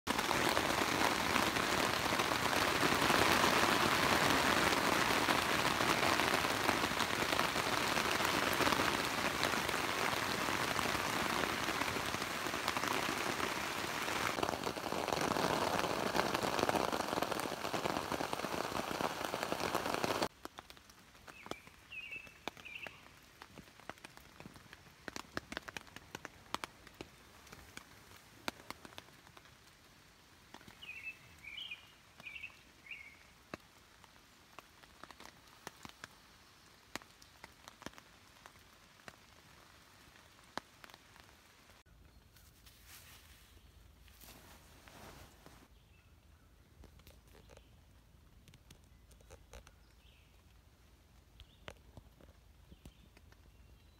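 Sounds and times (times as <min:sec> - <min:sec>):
rain on a tent: 0:00.0 - 0:41.9, 0:42.5 - 0:45.8, 0:46.6 - 0:53.9.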